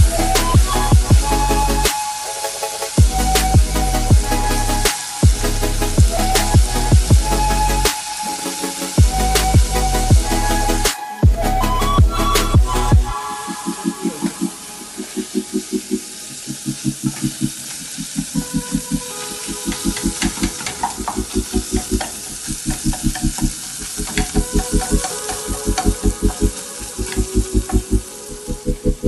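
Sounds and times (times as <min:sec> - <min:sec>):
food sizzling in pot: 0:00.1 - 0:28.7.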